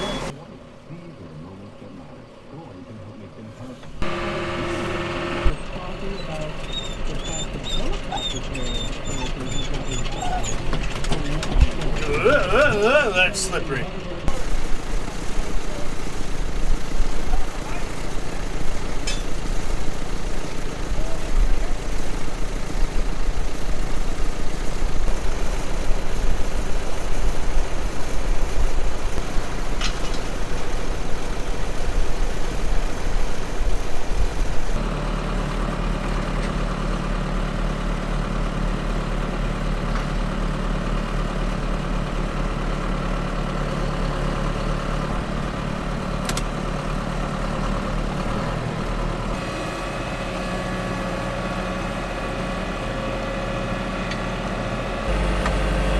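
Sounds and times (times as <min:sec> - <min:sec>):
tractor diesel engine running: 0:00.0 - 0:01.5, 0:03.5 - 0:55.9.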